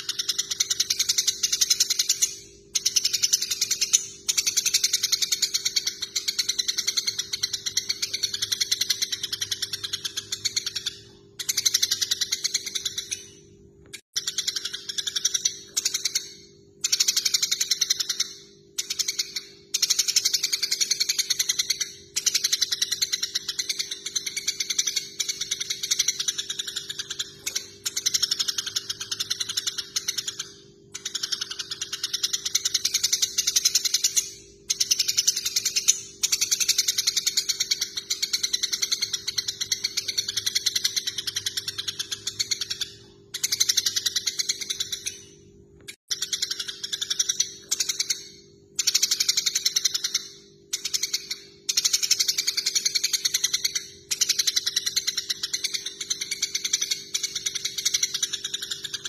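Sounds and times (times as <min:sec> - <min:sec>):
sparrows chattering: 0:00.0 - 0:13.5, 0:14.2 - 0:45.5, 0:46.1 - 0:59.0.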